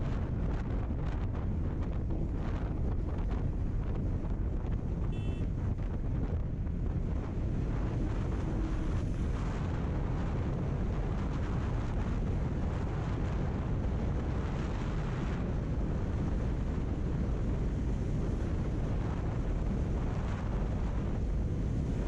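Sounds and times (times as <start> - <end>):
motorcycle road and engine noise: 0.0 - 22.0
wind buffeting microphone: 0.0 - 22.0.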